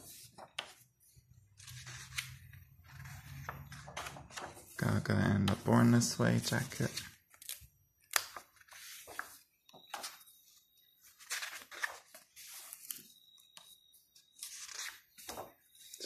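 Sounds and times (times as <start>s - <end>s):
book pages turning: 0.0s - 16.0s.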